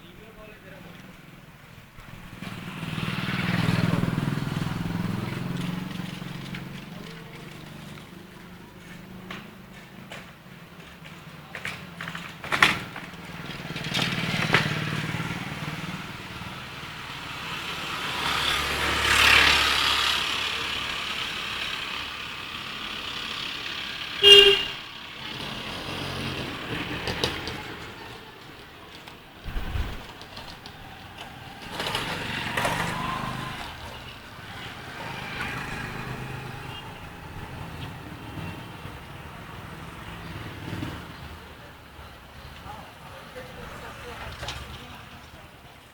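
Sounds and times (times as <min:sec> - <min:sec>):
vehicles passing by: 0:00.0 - 0:45.9.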